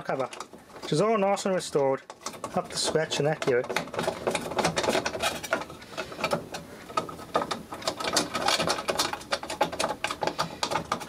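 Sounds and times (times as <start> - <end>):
clicks taps and scrapes on plastic: 0.0 - 11.0.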